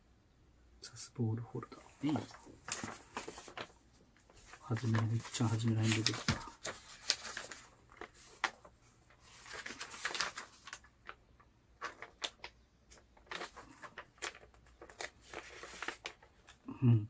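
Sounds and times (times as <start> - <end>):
paper sheets rustling: 1.7 - 11.2, 11.8 - 16.6.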